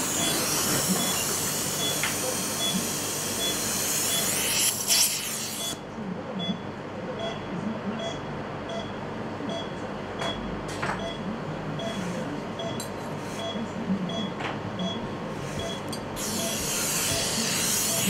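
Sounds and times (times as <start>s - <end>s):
low background murmur: 0.0s - 18.0s.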